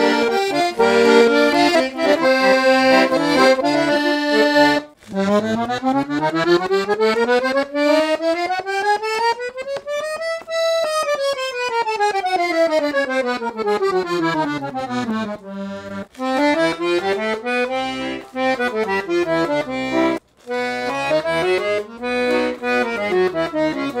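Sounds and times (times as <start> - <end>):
piano accordion playing: 0.0 - 24.0.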